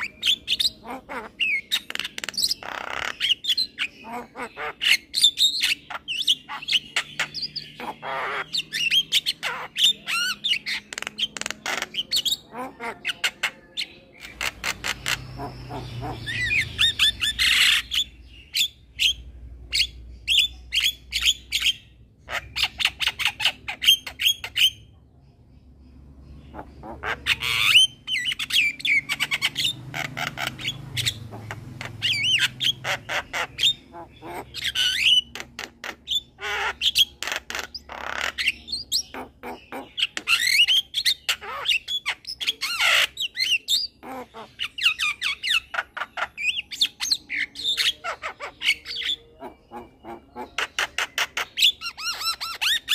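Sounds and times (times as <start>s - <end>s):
bird clicking and chattering song: 0.0s - 24.8s, 26.3s - 52.9s.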